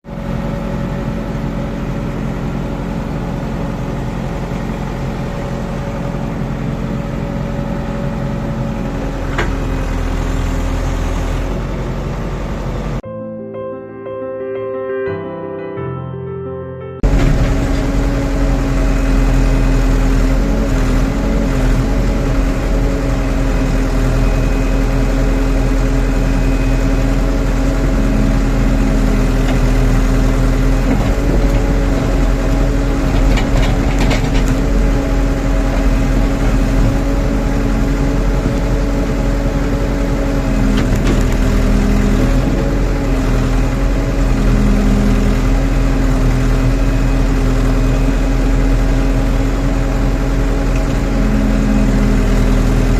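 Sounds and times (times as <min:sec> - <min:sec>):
diesel engine running: 0:00.0 - 0:13.0, 0:17.0 - 0:52.9.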